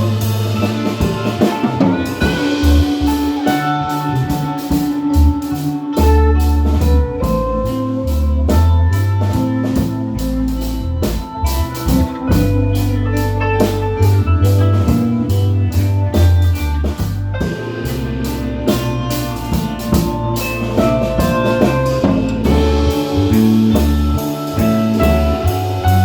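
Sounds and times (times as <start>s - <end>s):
deep bass line: 0.0s - 26.0s
drum kit beat: 0.0s - 26.0s.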